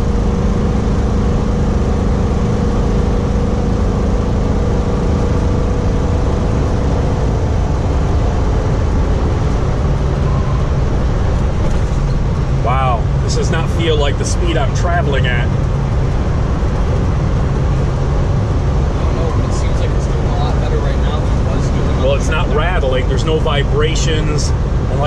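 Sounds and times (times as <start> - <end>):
engine drone: 0.0 - 25.0
low hum: 0.0 - 25.0
tyre and road noise: 0.0 - 25.0.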